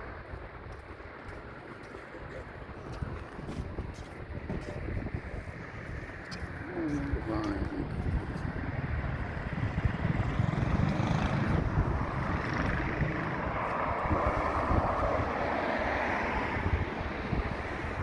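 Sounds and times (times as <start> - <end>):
steady rushing noise: 0.0 - 18.0
wind buffeting microphone: 0.0 - 18.0.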